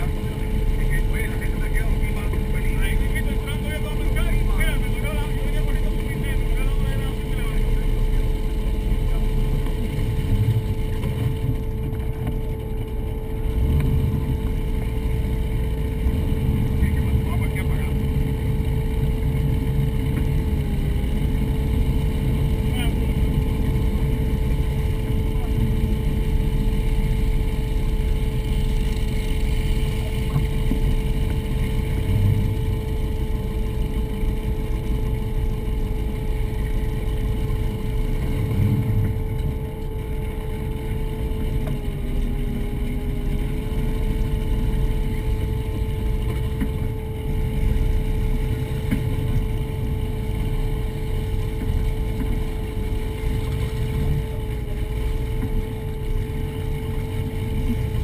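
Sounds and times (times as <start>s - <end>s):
boat engines idling: 0.0s - 58.0s.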